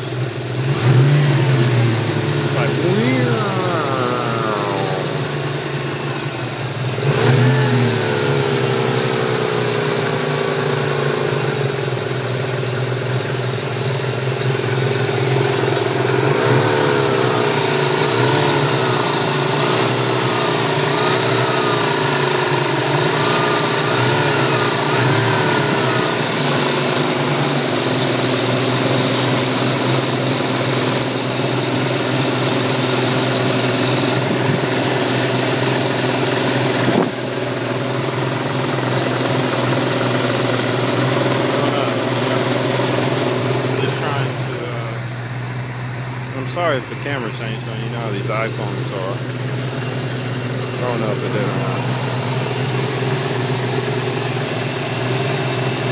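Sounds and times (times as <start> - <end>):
car engine idling and revving: 0.0 - 55.9
accessory drive whining: 1.6 - 55.5.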